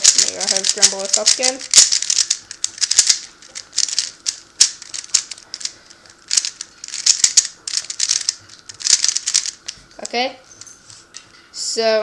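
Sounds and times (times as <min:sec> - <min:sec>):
speed cube clicking turns: 0:00.0 - 0:09.8.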